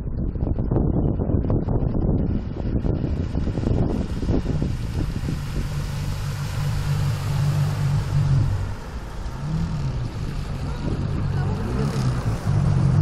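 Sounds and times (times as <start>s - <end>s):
personal watercraft engine running: 2.5s - 13.0s.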